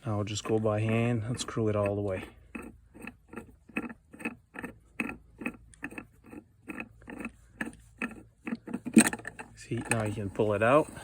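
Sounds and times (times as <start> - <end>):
tap stem unscrewing strokes: 0.3 - 11.0.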